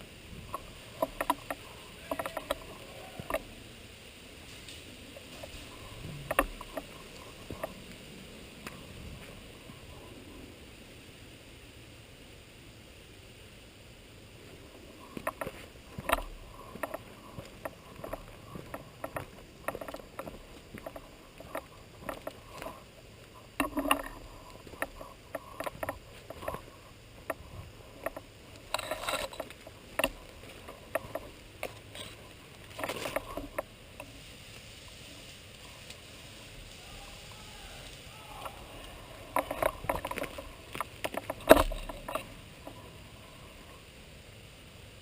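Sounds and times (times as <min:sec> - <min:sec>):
dry leaves and twigs crunching: 0:00.0 - 0:10.6, 0:14.2 - 0:43.7.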